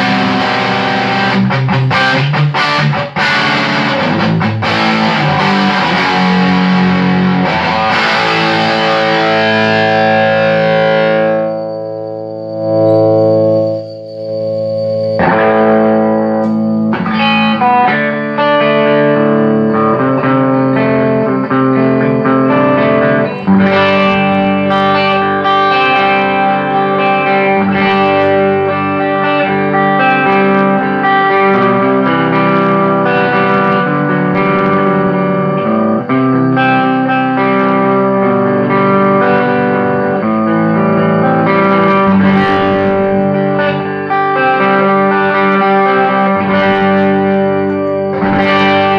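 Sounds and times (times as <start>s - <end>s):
electric guitar chords: 0.0s - 48.9s.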